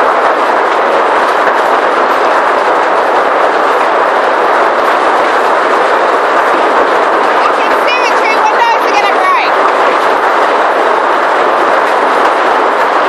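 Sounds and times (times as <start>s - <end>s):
hail hitting a car: 0.0s - 13.0s.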